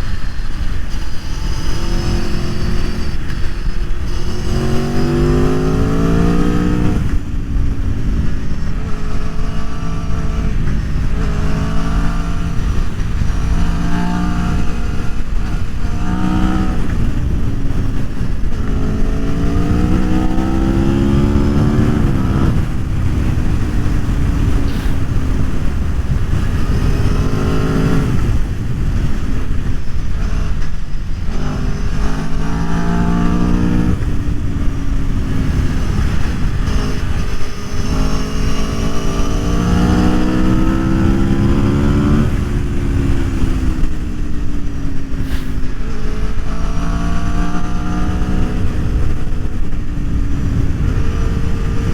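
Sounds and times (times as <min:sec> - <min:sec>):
motorcycle engine revving through gears: 0:00.0 - 0:51.9
steady rushing noise: 0:00.0 - 0:51.9.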